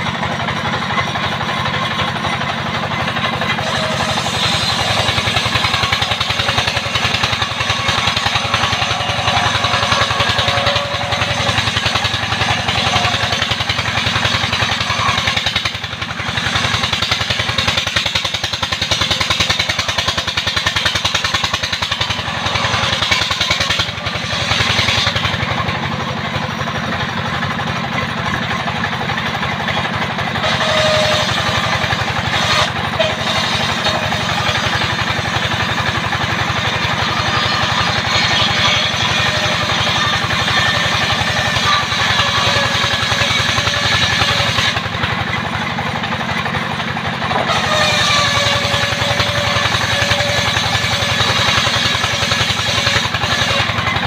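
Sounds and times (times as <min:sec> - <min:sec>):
engine pulsing: 0:00.0 - 0:54.0
circular saw blade ripping log: 0:03.2 - 0:26.0, 0:30.4 - 0:45.0, 0:47.3 - 0:54.0.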